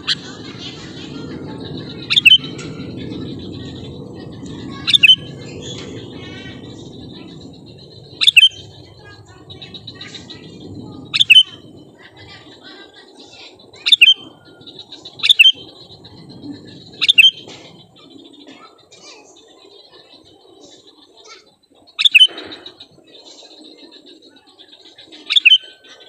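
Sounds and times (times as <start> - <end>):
soft bird twittering: 0.0 - 26.0.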